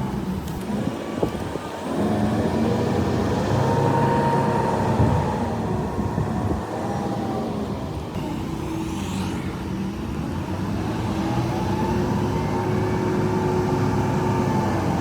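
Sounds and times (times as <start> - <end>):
construction vehicle engine running: 0.0 - 15.0.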